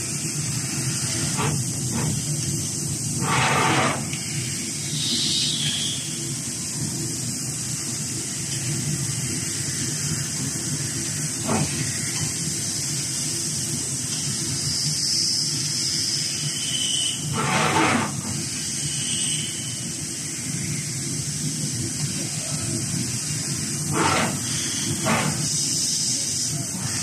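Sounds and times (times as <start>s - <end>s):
machine spindle running with high hiss: 0.0s - 27.0s.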